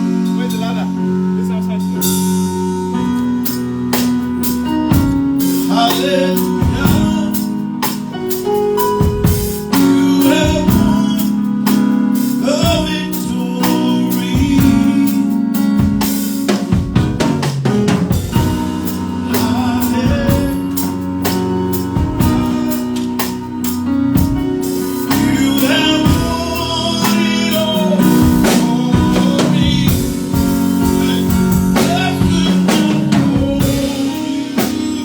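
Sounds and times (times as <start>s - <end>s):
live band playing: 0.0s - 35.0s.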